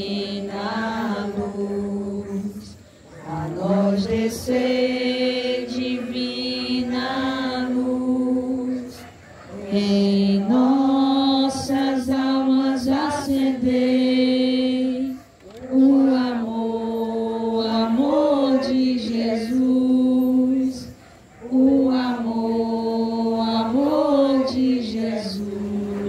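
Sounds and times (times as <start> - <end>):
women singing a chant: 0.0 - 26.0.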